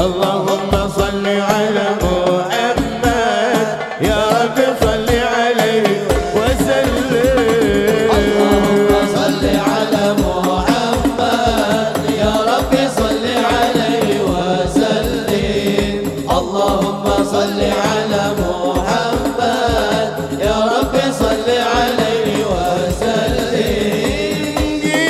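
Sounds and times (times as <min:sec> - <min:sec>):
bass drums and frame drums: 0:00.0 - 0:25.0
men singing devotional melody: 0:00.0 - 0:25.0.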